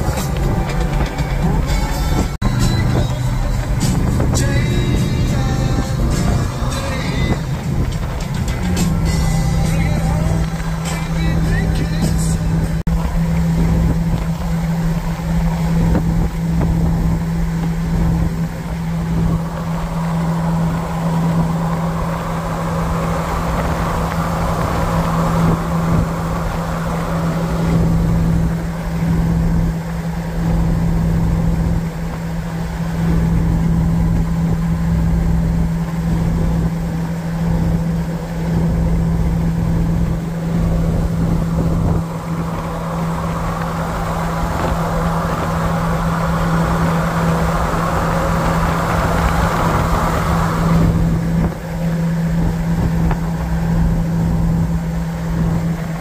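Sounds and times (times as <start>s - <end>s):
engine and exhaust drone: 0.0s - 56.0s
road and wind noise: 0.0s - 56.0s.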